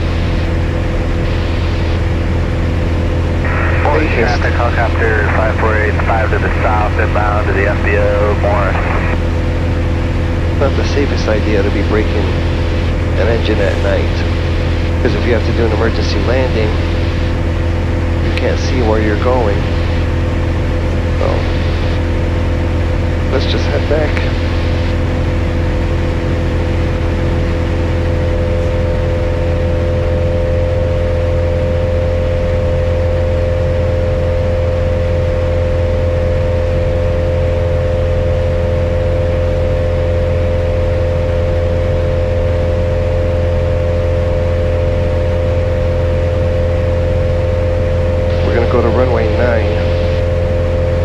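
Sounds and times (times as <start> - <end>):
airplane engine droning: 0.0 - 51.0.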